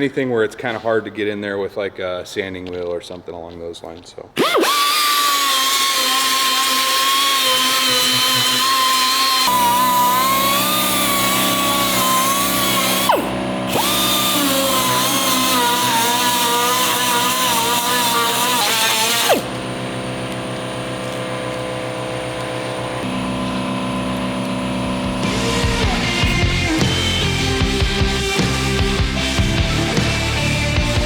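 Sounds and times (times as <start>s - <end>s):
rotary sander whining: 4.4s - 31.0s.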